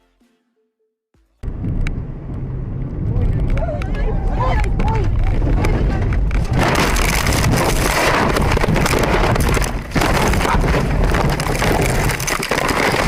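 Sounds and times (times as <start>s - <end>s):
rough wind and road noise: 1.4s - 13.0s.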